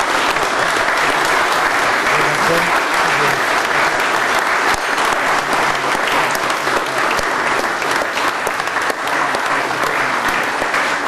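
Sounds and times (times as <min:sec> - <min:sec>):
people applauding: 0:00.0 - 0:11.0.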